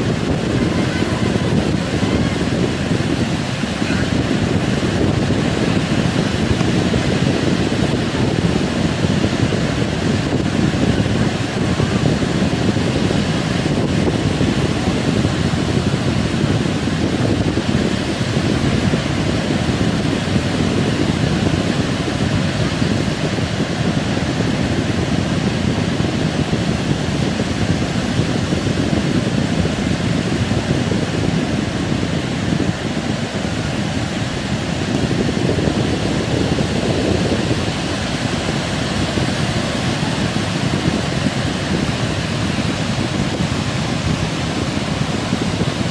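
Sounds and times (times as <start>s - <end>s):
heavy surf breaking on beach: 0.0s - 45.9s
wind blowing across microphone: 0.0s - 45.9s.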